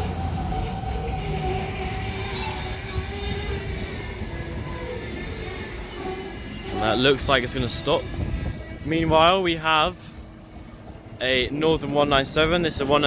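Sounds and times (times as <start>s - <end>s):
train low rumble: 0.0s - 13.0s
train wheels squealing: 0.0s - 13.0s.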